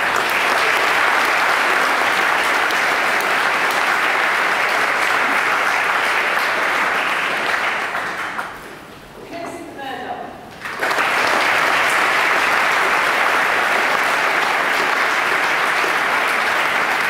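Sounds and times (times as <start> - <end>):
audience applauding: 0.0 - 8.8, 10.6 - 17.0.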